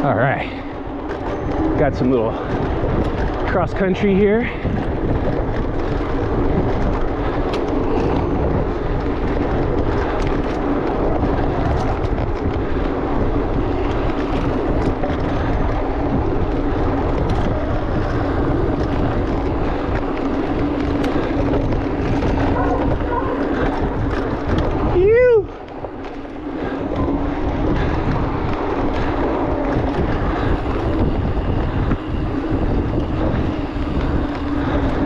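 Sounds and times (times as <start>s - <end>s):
bike tyres rolling on dirt: 0.0s - 35.0s
small ticks and rattles: 0.0s - 35.0s
wind on microphone: 0.0s - 35.0s.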